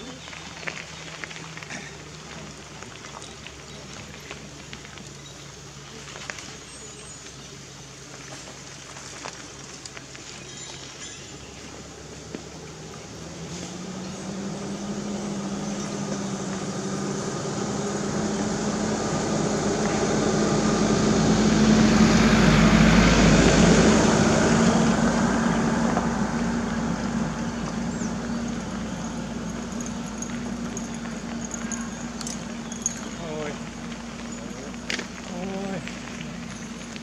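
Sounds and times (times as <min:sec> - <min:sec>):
suv engine humming: 0:00.0 - 0:37.0.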